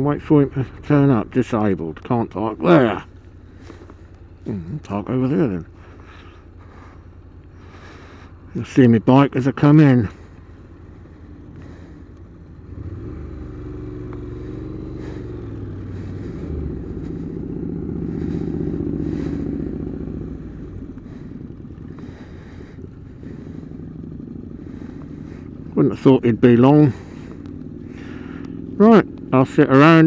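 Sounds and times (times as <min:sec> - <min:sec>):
motorcycle engine at low speed: 0:00.0 - 0:30.0.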